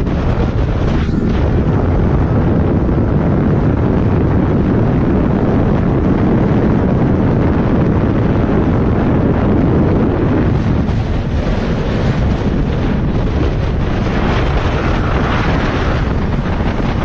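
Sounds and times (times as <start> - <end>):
road noise: 0.0 - 17.0
wind rushing over microphone: 0.0 - 17.0.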